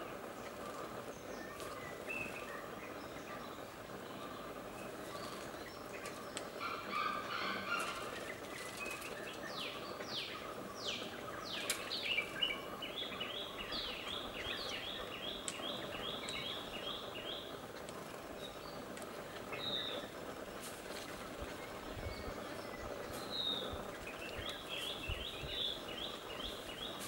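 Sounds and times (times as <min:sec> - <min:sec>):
background hiss: 0:00.0 - 0:27.0
songbird calling: 0:00.0 - 0:27.0.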